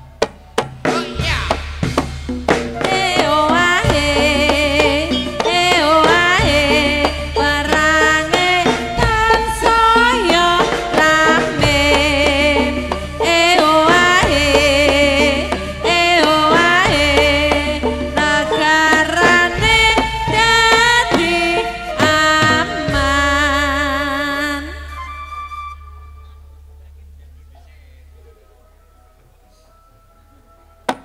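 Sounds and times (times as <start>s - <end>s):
percussion: 0.0s - 25.3s, 28.3s - 31.0s
low bass: 0.0s - 29.4s.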